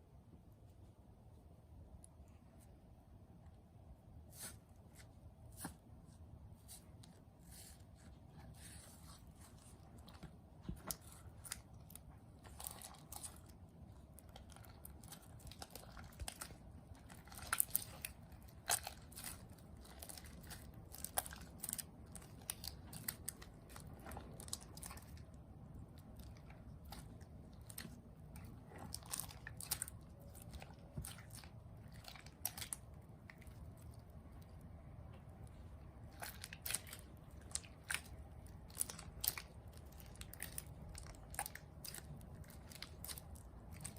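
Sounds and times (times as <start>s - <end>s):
low steady hum: 0.0s - 43.9s.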